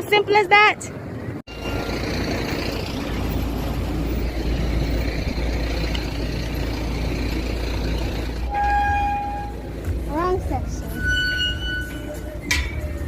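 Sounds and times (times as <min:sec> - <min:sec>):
vehicle low rumble: 0:00.9 - 0:13.0.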